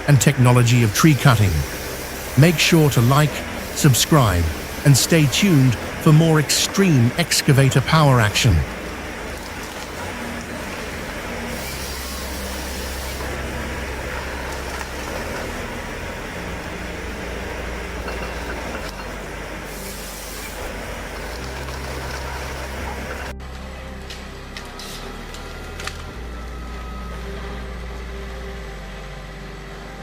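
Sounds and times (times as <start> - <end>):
heavy machinery engine drone: 0.0 - 30.0.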